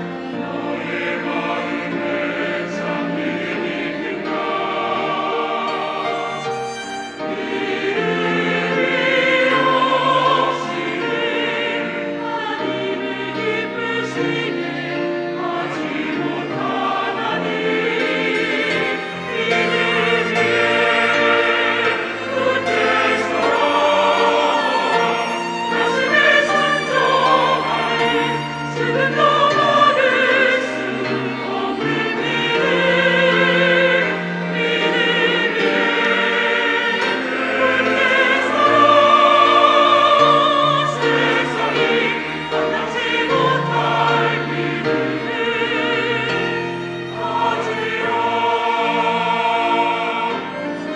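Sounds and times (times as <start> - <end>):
church choir singing: 0.0 - 50.9
instrumental accompaniment: 0.0 - 50.9.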